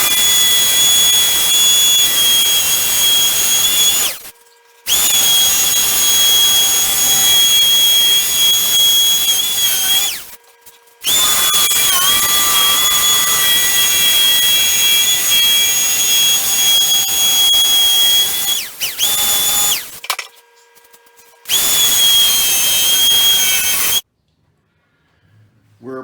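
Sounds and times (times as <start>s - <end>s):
power tool cutting plywood: 0.0s - 4.3s, 4.9s - 10.4s, 11.0s - 20.2s, 21.5s - 24.0s.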